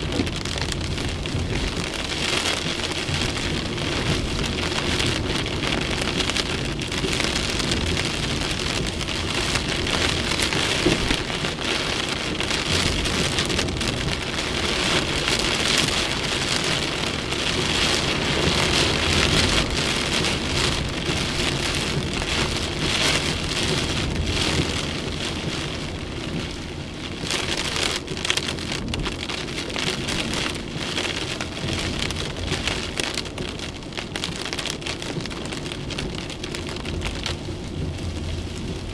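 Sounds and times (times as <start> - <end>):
torrential rain: 0.0 - 38.9.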